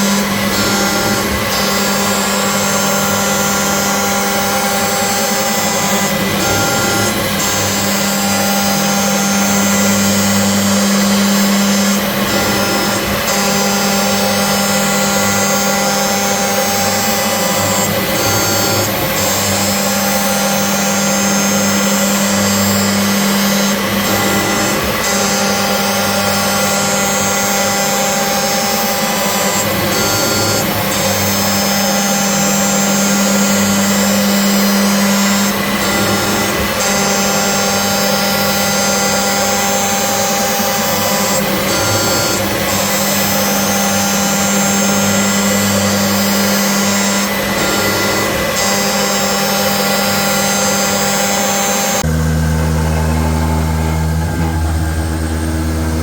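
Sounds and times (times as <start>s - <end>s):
milling machine cutting steel: 0.0s - 56.0s.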